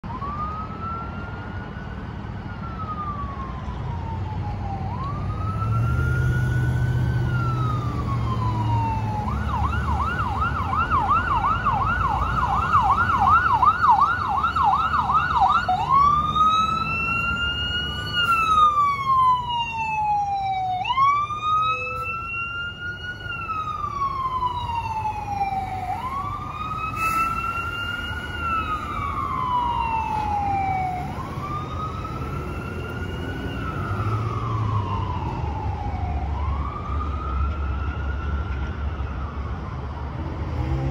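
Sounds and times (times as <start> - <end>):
fire engine siren: 0.0 - 40.9
traffic and engine rumble: 0.0 - 40.9.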